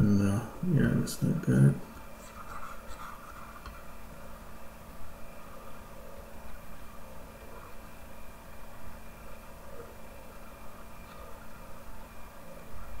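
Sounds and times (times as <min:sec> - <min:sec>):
faint high-pitched whine: 0:00.0 - 0:13.0
low hum and hiss: 0:00.0 - 0:13.0.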